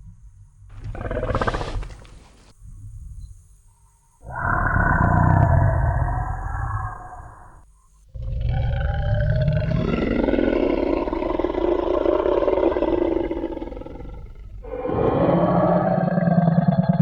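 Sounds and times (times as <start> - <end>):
dinosaur roar: 0.8 - 2.2, 4.2 - 7.6, 8.2 - 17.0.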